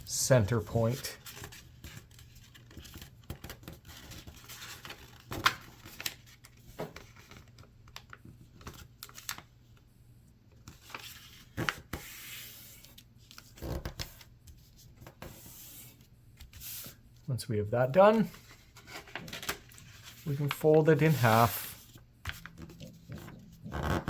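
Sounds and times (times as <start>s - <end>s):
paper being folded: 0.6s - 9.8s, 10.6s - 17.0s, 18.2s - 24.0s.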